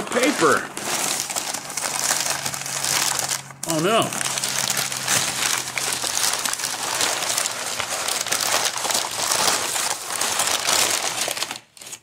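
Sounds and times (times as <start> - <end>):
packing paper crinkling: 0.0 - 12.0.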